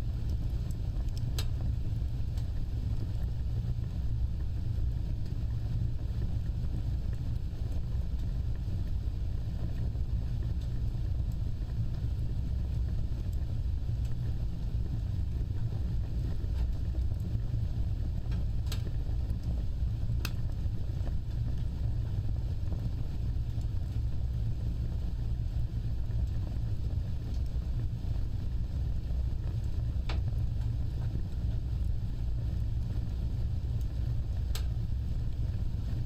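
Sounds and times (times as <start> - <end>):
fire crackling pops: 0.0 - 36.0
fire roaring: 0.0 - 36.0.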